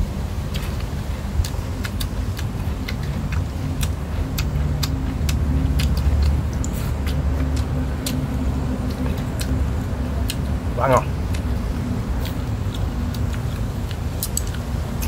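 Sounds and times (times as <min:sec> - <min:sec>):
steady low rumble: 0:00.0 - 0:15.0
chewing and lip-smacking: 0:00.4 - 0:15.0.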